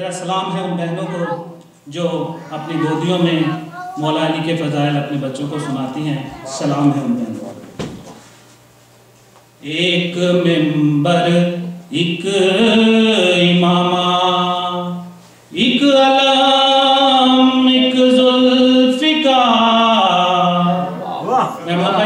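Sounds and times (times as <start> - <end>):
man chanting unaccompanied: 0.0 - 7.7, 9.6 - 22.0.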